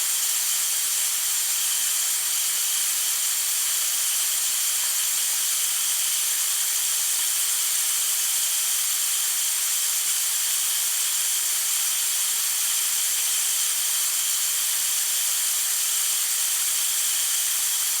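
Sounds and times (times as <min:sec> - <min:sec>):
water hissing from leaking pipe: 0:00.0 - 0:18.0.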